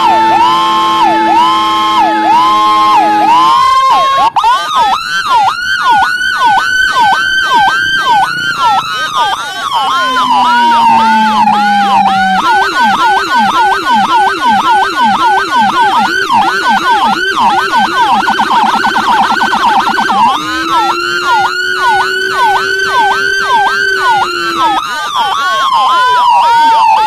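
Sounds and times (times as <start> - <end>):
dual-tone electronic siren: 0.0 - 27.0.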